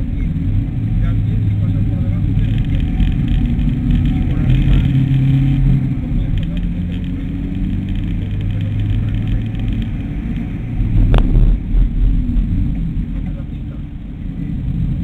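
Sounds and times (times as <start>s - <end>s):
road and tyre rumble: 0.0s - 15.0s
car engine revving hard: 0.3s - 13.1s.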